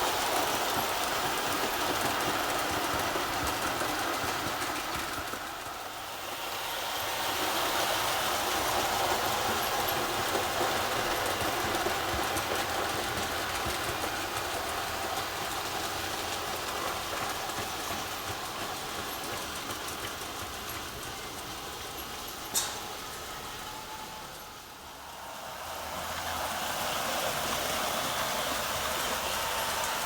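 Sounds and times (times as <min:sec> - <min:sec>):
model locomotive motors whirring: 0:00.0 - 0:30.0
wheels running on track: 0:00.0 - 0:30.0.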